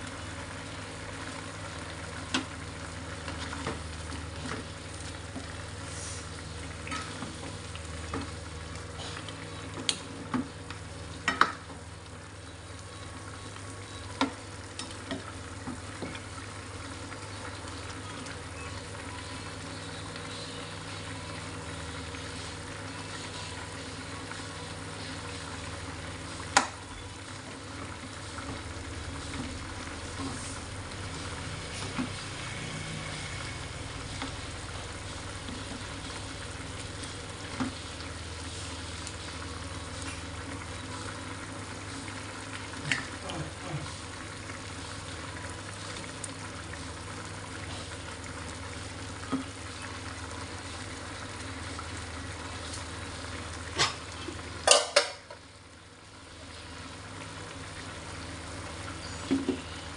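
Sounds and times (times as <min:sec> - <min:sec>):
meat sizzling in sauce: 0:00.0 - 0:59.9.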